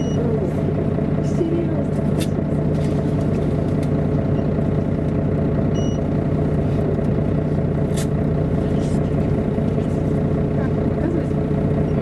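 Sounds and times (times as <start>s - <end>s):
bus diesel engine humming: 0.0s - 12.0s.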